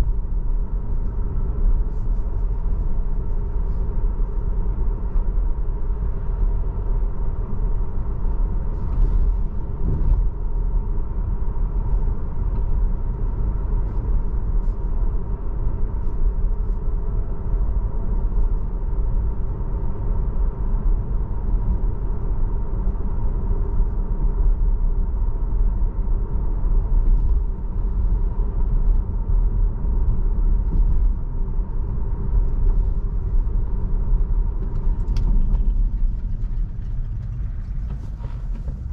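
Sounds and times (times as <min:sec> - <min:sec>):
road and tyre noise: 0:00.0 - 0:38.9.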